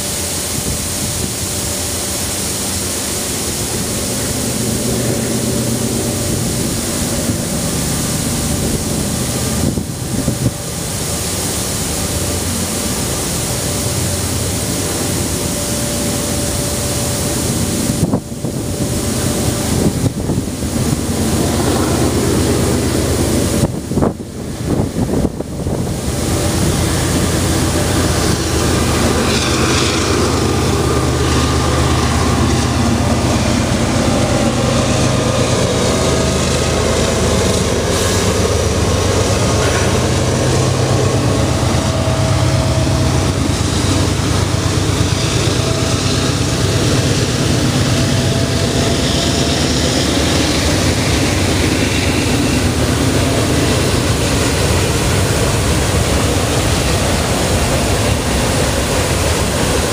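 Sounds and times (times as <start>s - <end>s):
diesel locomotive engine drone: 0.0s - 59.9s
freight cars rolling on rails: 0.0s - 59.9s.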